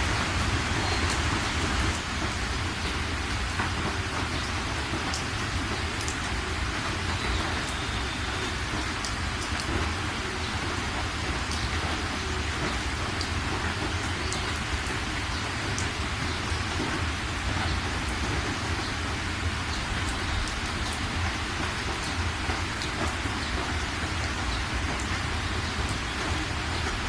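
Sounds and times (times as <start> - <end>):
rain falling: 0.0 - 27.0
raindrops ticking: 0.1 - 27.0.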